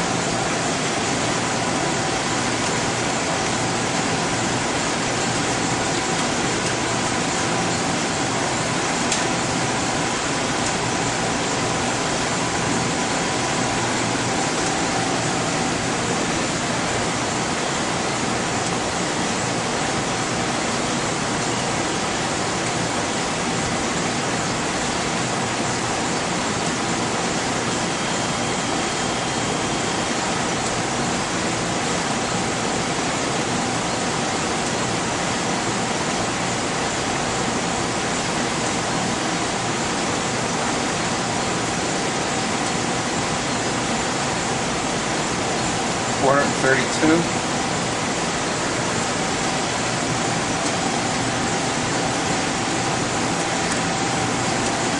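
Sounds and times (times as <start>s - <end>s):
equipment fans and ventilation hiss: 0.0s - 54.9s.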